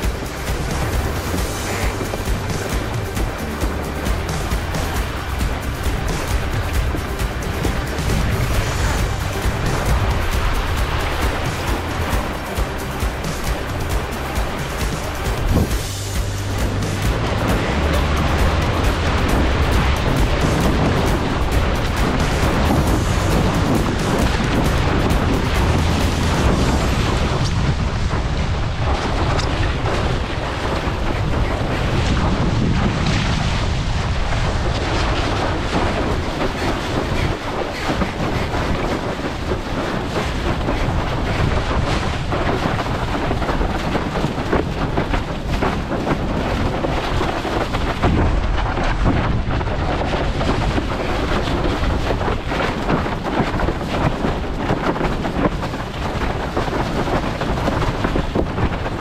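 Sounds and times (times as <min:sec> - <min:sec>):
water rushing beneath board: 0:00.0 - 0:59.0
wind buffeting microphone: 0:00.0 - 0:59.0.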